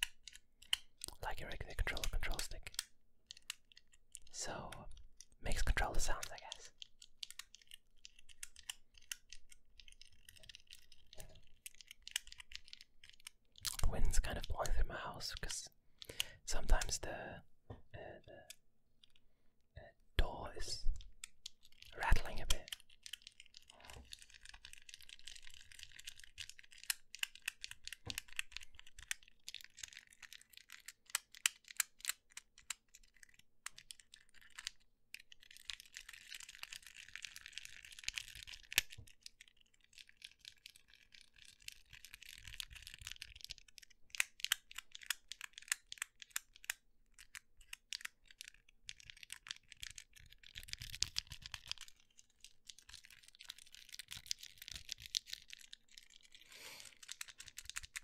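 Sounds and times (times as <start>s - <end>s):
small plastic clicks and ticks: 0.0s - 17.1s, 18.3s - 19.2s, 20.6s - 58.0s.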